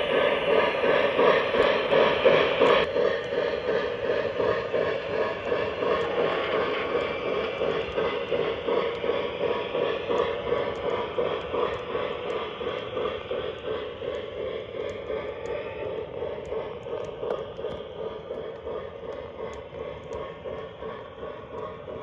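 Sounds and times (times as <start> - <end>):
model train rolling rumble: 0.0 - 22.0.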